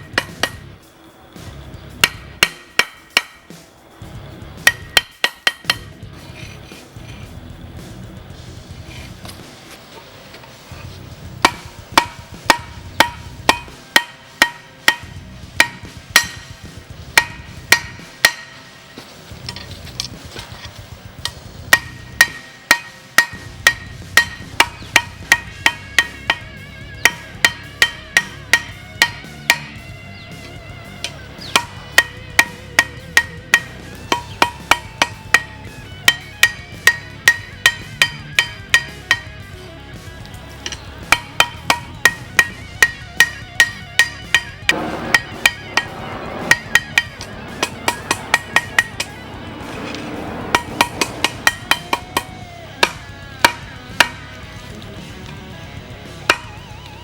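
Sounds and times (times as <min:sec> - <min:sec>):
hammer striking steel on anvil: 0:00.0 - 0:00.7, 0:02.0 - 0:03.7, 0:04.6 - 0:07.2, 0:11.4 - 0:20.1, 0:21.2 - 0:40.0, 0:40.6 - 0:55.4, 0:56.1 - 0:56.7
quiet background guitar music: 0:00.0 - 0:57.0.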